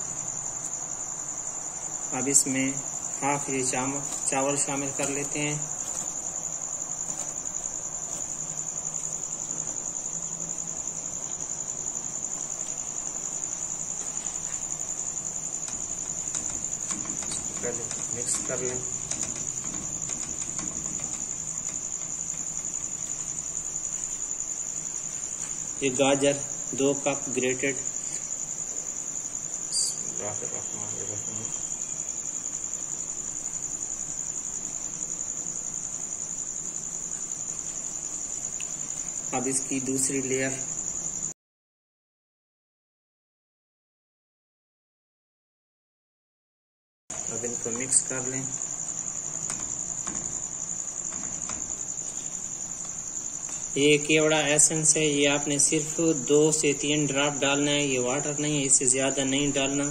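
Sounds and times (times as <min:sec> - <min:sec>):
cricket trilling: 0:00.0 - 0:41.4, 0:47.1 - 0:59.9.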